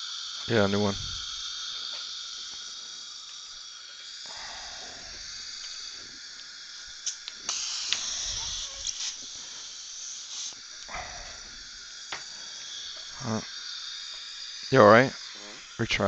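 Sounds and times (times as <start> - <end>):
dental equipment hissing: 0.0 - 16.0.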